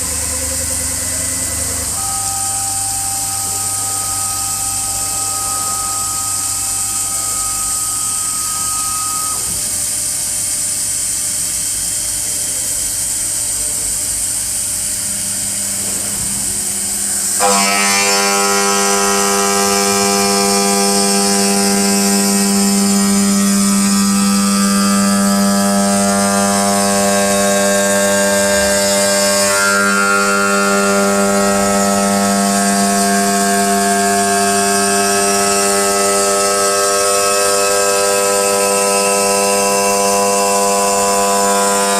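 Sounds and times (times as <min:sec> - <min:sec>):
steady whining tones: 0:00.0 - 0:41.9
stone cutting machine humming: 0:00.0 - 0:41.9.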